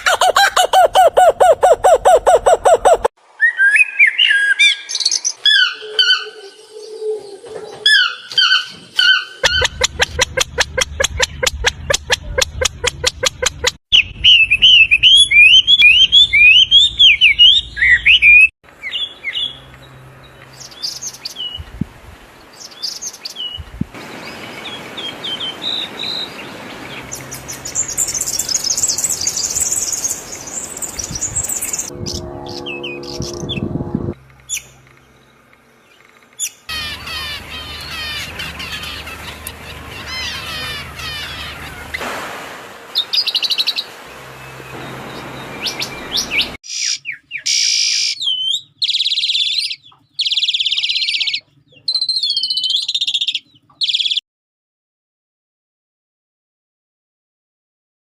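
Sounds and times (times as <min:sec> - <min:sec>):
birds chirping and calling: 0:00.0 - 0:21.6, 0:22.4 - 0:42.0, 0:43.0 - 0:54.2.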